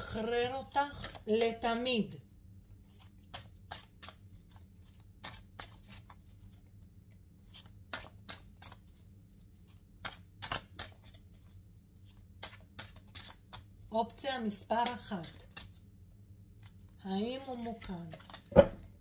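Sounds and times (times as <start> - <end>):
cards being shuffled: 0.1 - 13.9, 14.7 - 15.9, 16.5 - 18.9.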